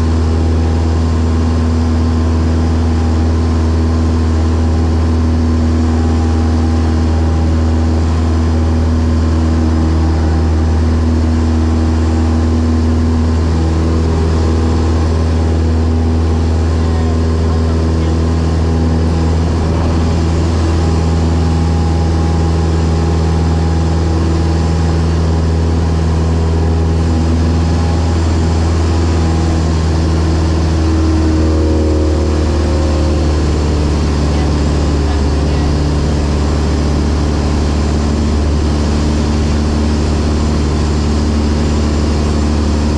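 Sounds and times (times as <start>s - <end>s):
light aircraft engine droning: 0.0s - 42.9s.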